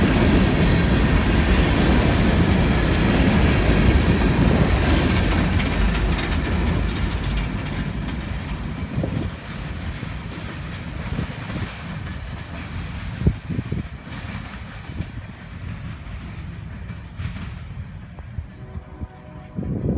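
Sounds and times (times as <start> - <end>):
train cars clickety-clack: 0.0 - 19.9.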